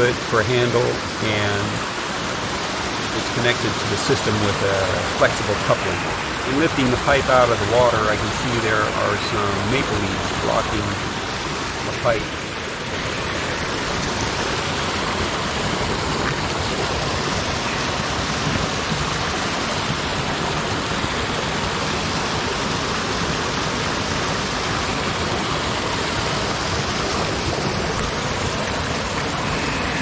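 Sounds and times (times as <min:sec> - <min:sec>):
creek water flowing: 0:00.0 - 0:30.0.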